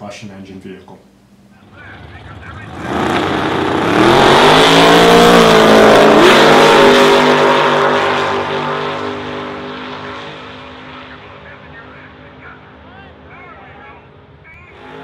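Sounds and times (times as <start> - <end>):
drag racing cars accelerating: 1.9 - 13.3, 14.1 - 15.0.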